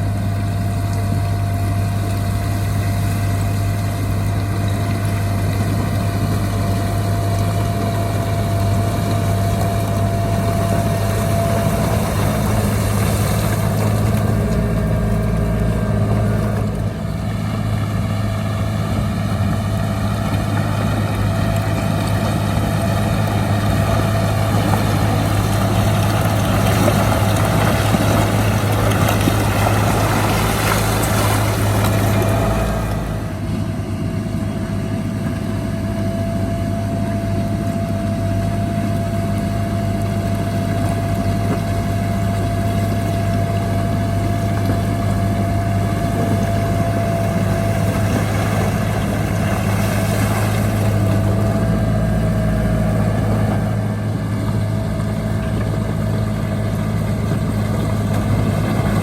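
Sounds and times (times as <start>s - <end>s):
diesel earthmoving machine engine: 0.0s - 59.0s.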